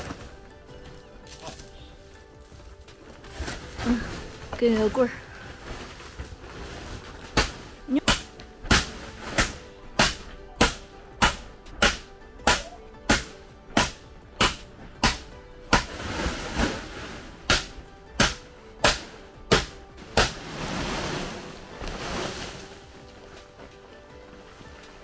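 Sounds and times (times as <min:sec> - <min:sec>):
wooden stick pounding sack: 0:03.2 - 0:23.7.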